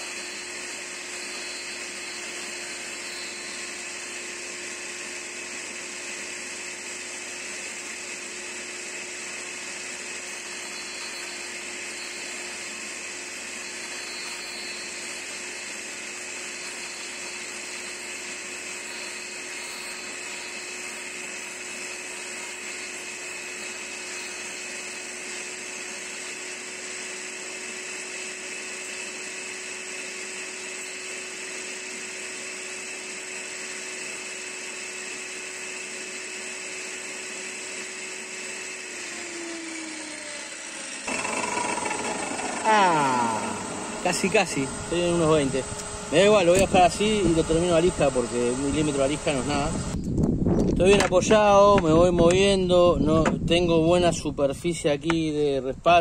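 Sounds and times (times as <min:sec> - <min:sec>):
saw blade shaving wood: 0:00.0 - 0:50.0
table saw whining: 0:00.0 - 0:56.0.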